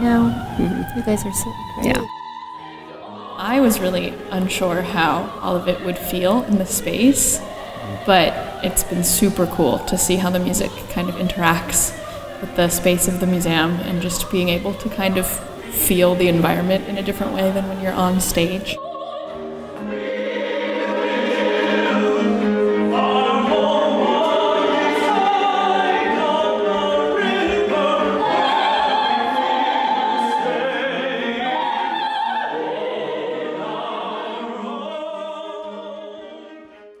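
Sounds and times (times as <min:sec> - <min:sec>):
operatic singing voices: 0:00.0 - 0:37.0
string ensemble: 0:00.0 - 0:37.0.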